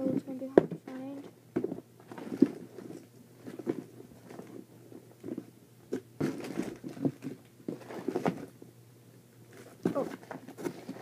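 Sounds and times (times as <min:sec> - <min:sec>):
rummaging through small toys: 0:00.1 - 0:05.5, 0:06.2 - 0:08.5, 0:09.5 - 0:11.0.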